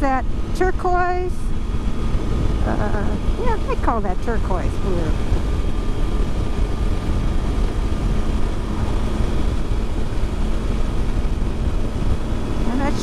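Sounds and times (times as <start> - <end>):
motorcycle engine drone: 0.0 - 13.0
wind noise: 1.4 - 13.0.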